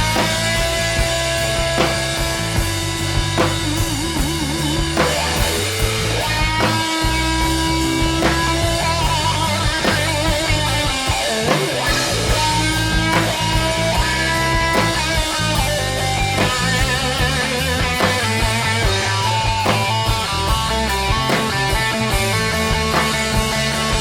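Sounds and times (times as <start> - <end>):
bass: 0.0 - 24.0
drums: 0.0 - 24.0
guitar with wide vibrato: 0.0 - 24.0.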